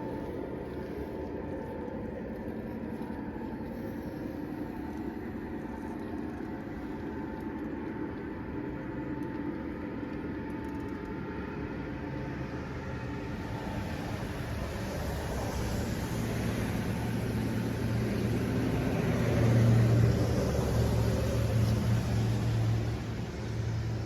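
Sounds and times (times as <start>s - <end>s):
model train rumble with motor hum: 0.0s - 24.0s.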